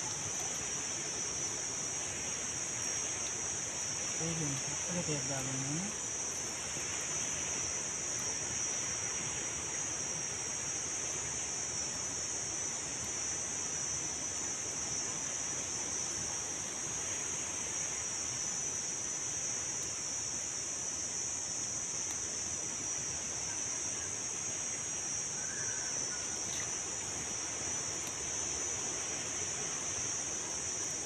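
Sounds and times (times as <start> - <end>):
background hiss: 0.0 - 31.0
insects buzzing: 0.0 - 31.0.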